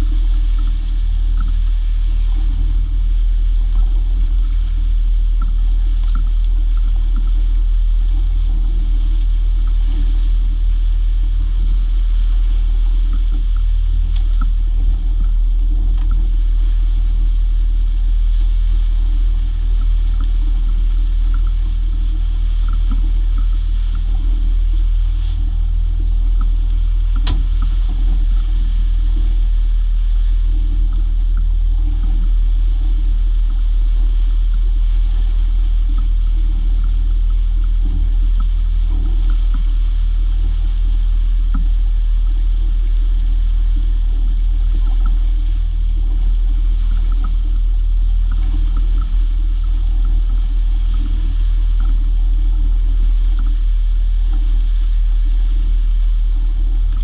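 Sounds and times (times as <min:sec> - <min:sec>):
hiss of boat wake: 0:00.0 - 0:57.0
outboard motor running: 0:00.0 - 0:57.0
wind rumble on microphone: 0:00.0 - 0:57.0.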